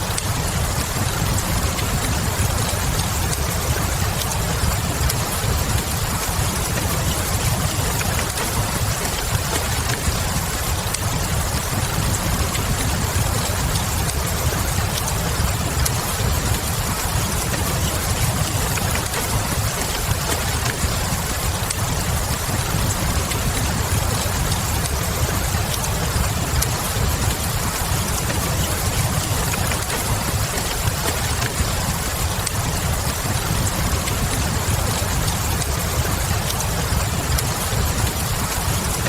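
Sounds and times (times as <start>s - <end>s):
steady rain: 0.0s - 39.0s
wood fire crackling: 0.0s - 39.0s.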